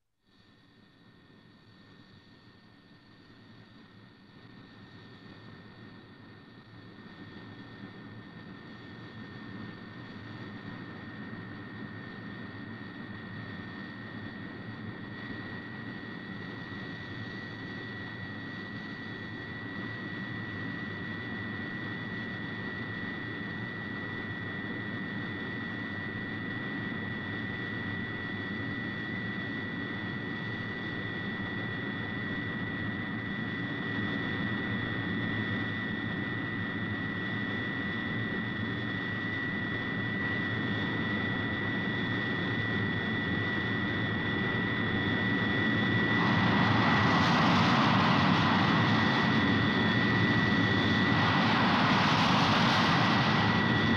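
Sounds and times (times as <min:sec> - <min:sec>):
jet engine whine and rumble: 0:00.3 - 0:53.9.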